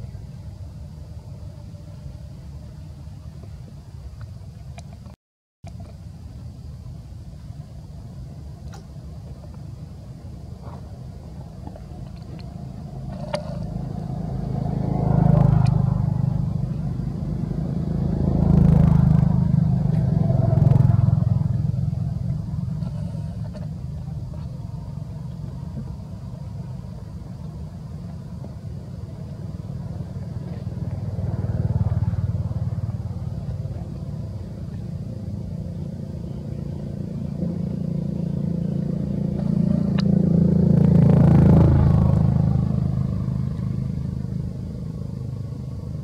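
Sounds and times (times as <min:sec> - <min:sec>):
passing motor vehicles: 0:00.0 - 0:05.2, 0:05.8 - 0:46.0.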